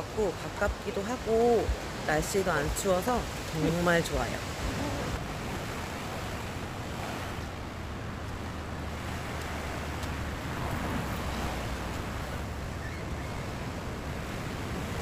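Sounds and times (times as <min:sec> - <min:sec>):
sea surf against rocks: 0:00.0 - 0:15.0
wind rumbling on microphone: 0:00.0 - 0:15.0.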